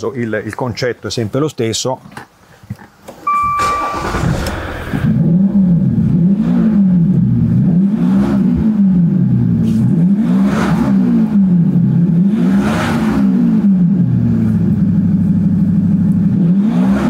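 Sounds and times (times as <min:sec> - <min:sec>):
car engine revving: 0:03.3 - 0:17.0.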